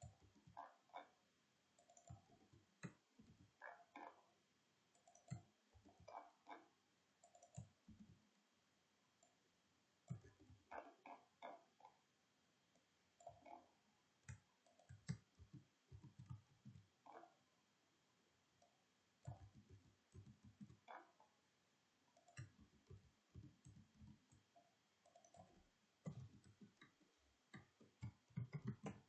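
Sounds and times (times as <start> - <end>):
faint keyboard and mouse clicking: 0.0 - 1.2, 1.8 - 4.3, 4.9 - 8.3, 10.0 - 12.0, 12.7 - 17.4, 18.6 - 21.3, 22.1 - 29.0.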